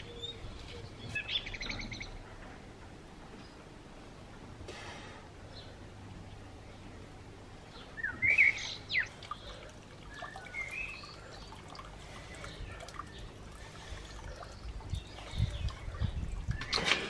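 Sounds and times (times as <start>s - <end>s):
birds chirping: 0.0s - 2.4s, 5.4s - 17.0s.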